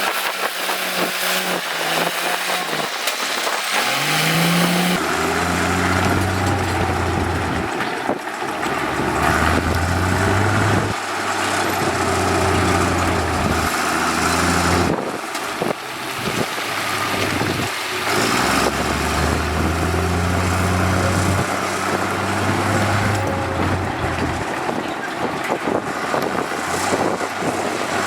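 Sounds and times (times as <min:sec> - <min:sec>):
diesel construction machinery running: 0:00.0 - 0:28.0.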